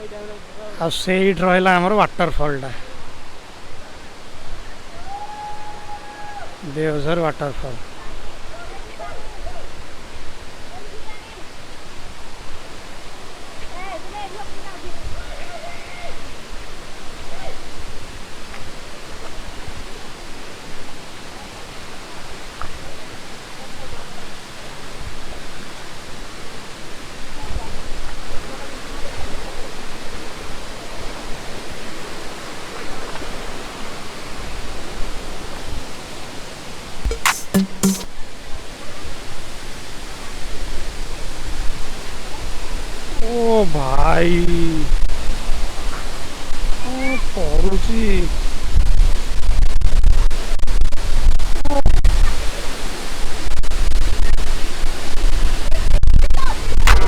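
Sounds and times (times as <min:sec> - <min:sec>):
waterfall rushing: 0:00.0 - 0:49.6.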